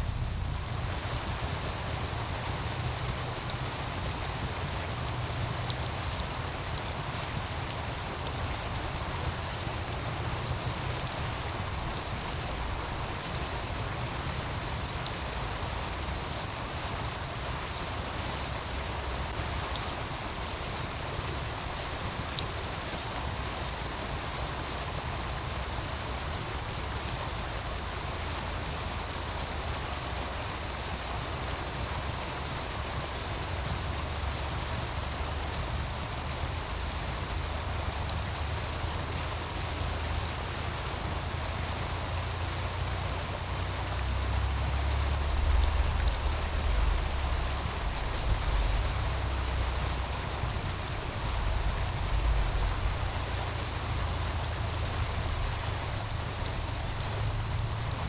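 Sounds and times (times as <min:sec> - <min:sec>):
stream rushing: 0:00.0 - 0:58.0
wood fire crackles: 0:00.0 - 0:58.0.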